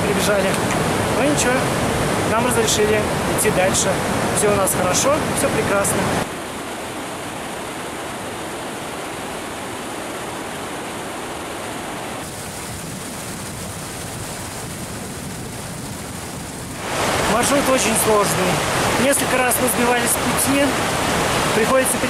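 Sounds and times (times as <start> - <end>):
rushing mountain stream: 0.0 - 22.0.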